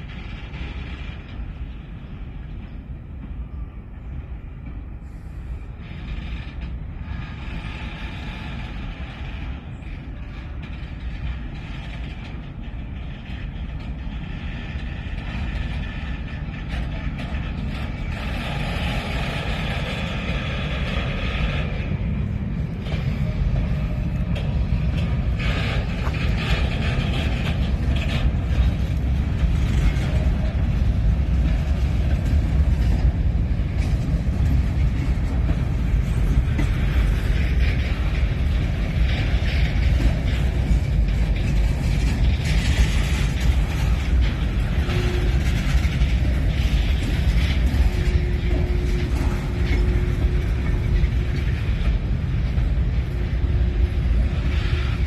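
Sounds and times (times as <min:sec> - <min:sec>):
freight train rumbling on rails: 0:00.0 - 0:55.0
train wheels squealing: 0:00.0 - 0:55.0.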